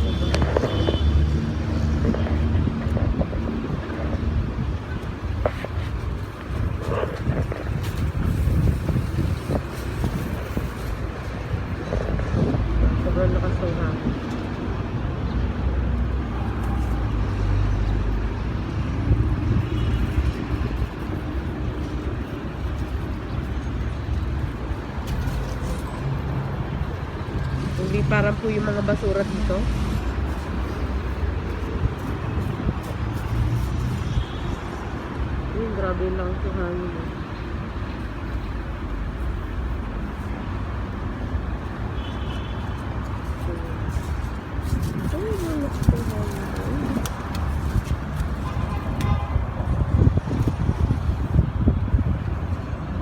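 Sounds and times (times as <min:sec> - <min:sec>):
strong wind blowing: 0:00.0 - 0:35.0, 0:42.9 - 0:53.0.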